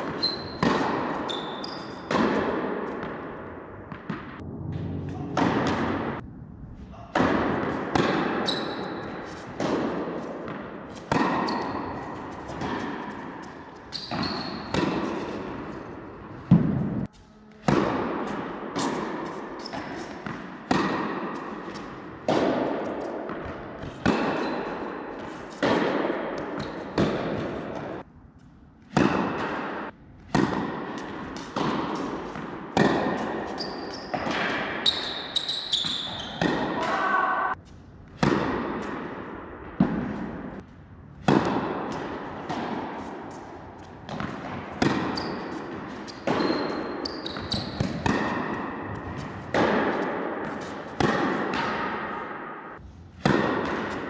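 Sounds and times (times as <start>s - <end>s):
tennis ball bouncing on court: 0.0s - 4.4s, 7.1s - 28.1s, 28.9s - 36.9s, 38.1s - 54.0s
tennis ball struck by rackets: 0.0s - 4.4s, 5.3s - 6.2s, 7.1s - 28.1s, 28.8s - 36.9s, 38.1s - 54.0s.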